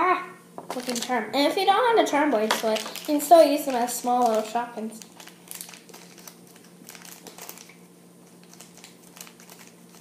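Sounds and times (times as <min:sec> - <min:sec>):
plastic bag rustling: 0:00.7 - 0:01.2, 0:02.3 - 0:10.0.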